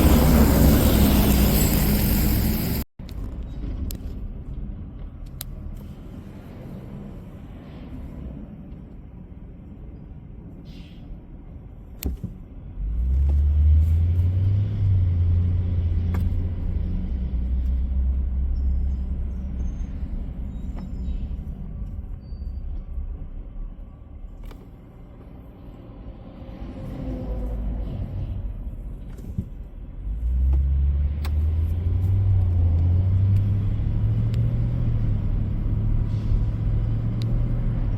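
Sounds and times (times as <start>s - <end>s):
heavy truck engine rumbling: 0.0s - 5.0s, 12.4s - 37.9s.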